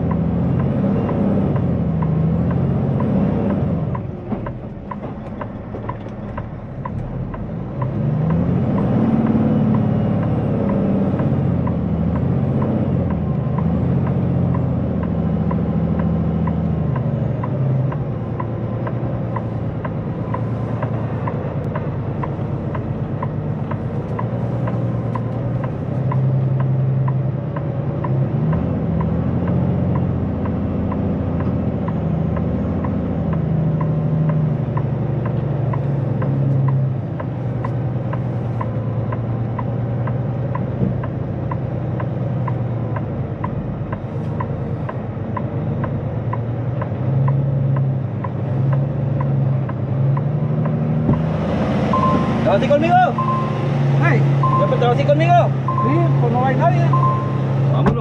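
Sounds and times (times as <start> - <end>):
truck diesel engine revving: 0.0 - 58.0.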